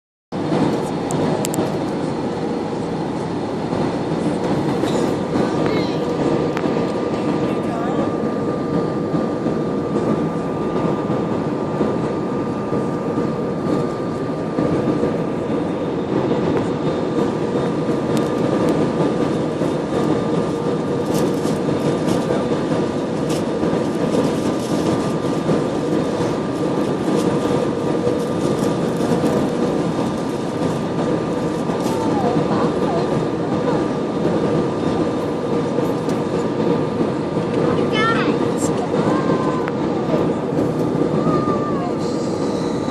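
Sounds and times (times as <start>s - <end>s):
airliner engine and airflow rush: 0.3s - 42.9s.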